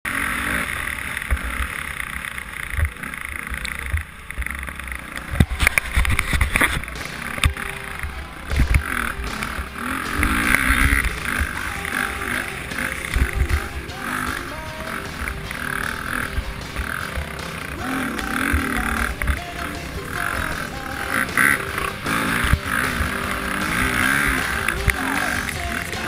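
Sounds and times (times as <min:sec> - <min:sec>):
dirt bike engine: 0:00.0 - 0:26.0.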